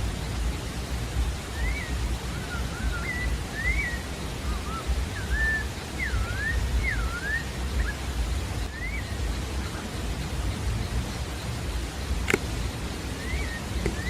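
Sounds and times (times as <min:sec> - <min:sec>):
steady hiss: 0:00.0 - 0:14.0
thrush whistling song: 0:00.0 - 0:14.0.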